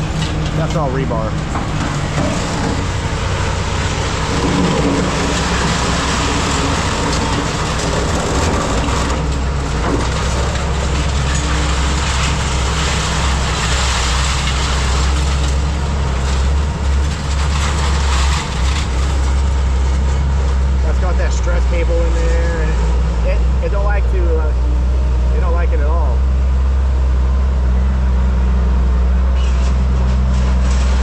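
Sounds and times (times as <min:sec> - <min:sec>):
metal scraping and clanking: 0:00.0 - 0:26.0, 0:29.2 - 0:31.0
heavy diesel machinery drone: 0:00.0 - 0:31.0.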